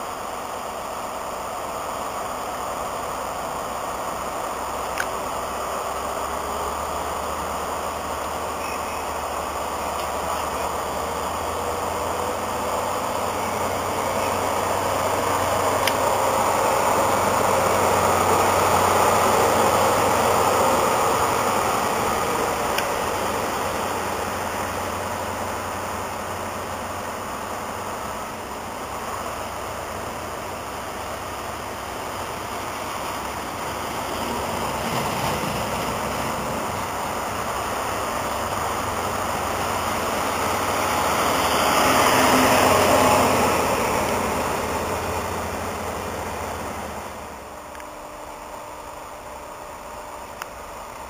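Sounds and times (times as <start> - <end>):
diesel train passing: 0.0 - 51.0.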